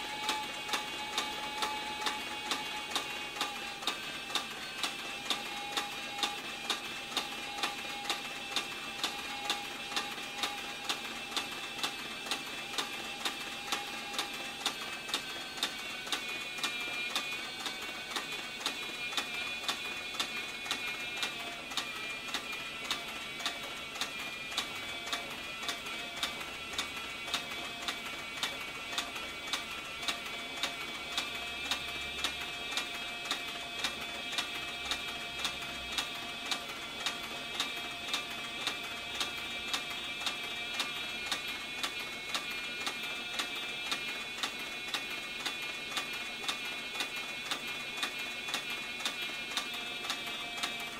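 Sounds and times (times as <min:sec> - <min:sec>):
steady machine whine: 0:00.0 - 0:50.9.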